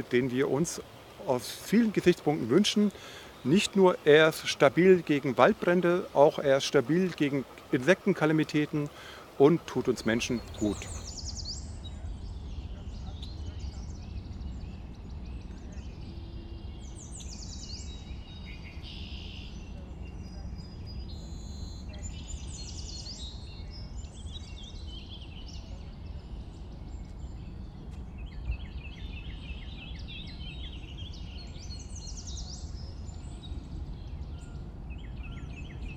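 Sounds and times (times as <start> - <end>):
songbirds singing: 0.0 - 35.9.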